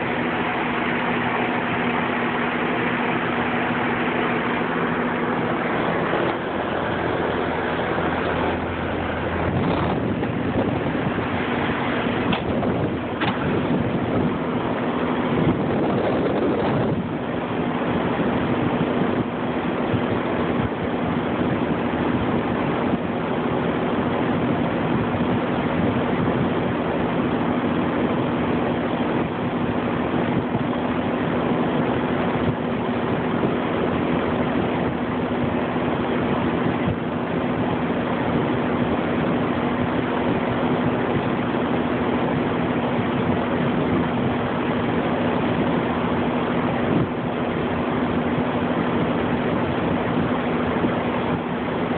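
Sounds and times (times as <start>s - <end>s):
air rushing through coil fins: 0.0s - 51.9s
condenser fan running: 0.0s - 51.9s.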